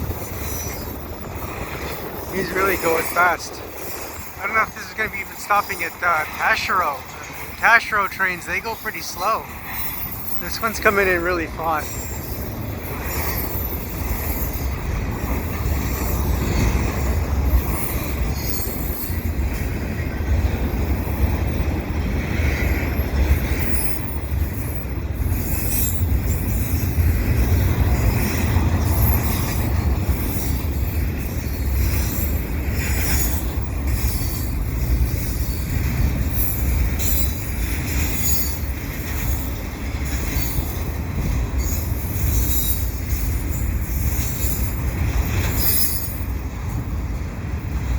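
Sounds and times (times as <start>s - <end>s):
wheel squeals and screeches: 0.0s - 20.2s, 20.9s - 46.8s
train cars rumbling: 0.0s - 47.9s.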